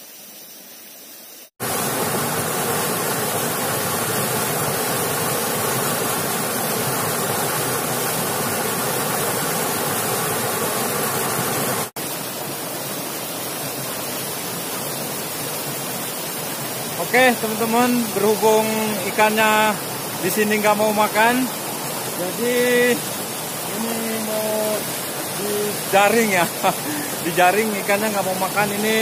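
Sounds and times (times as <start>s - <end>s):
waterfall roaring: 1.6s - 29.0s.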